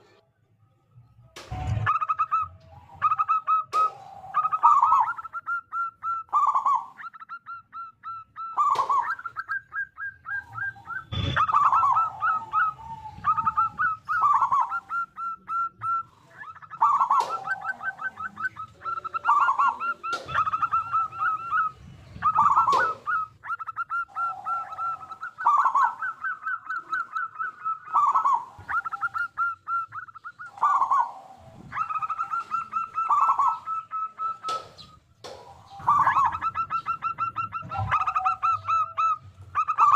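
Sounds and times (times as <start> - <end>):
doves cooing: 1.5 - 39.9.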